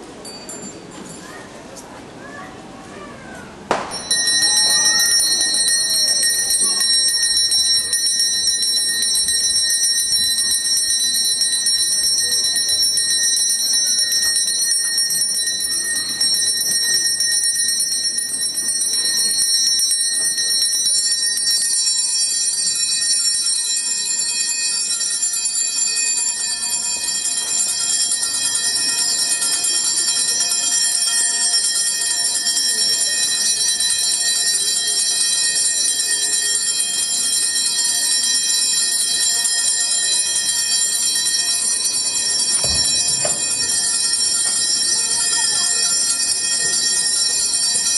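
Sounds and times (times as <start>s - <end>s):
hand bells jangling: 0.2s - 1.4s, 3.7s - 36.3s, 37.2s - 47.9s.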